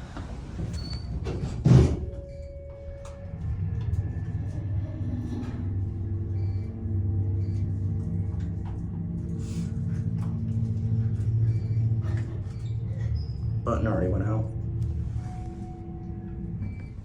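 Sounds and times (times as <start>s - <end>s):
elevator pump motor humming: 0.0s - 17.0s.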